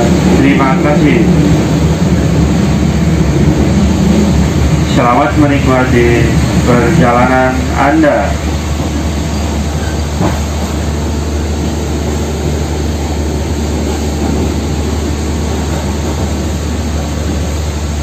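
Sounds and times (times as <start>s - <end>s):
train carriage rumble and hiss: 0.0s - 18.0s.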